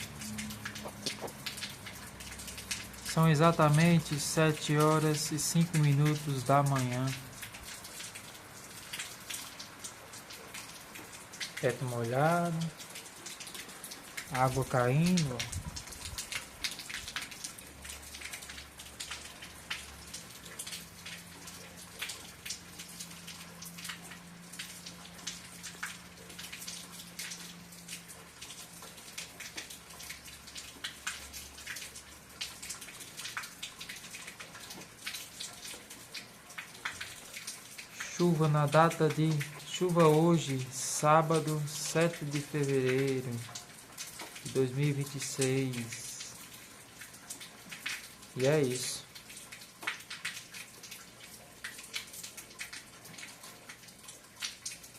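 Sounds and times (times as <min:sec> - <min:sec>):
rain patter: 0:00.0 - 0:54.9
water dripping and splashing: 0:00.0 - 0:54.9.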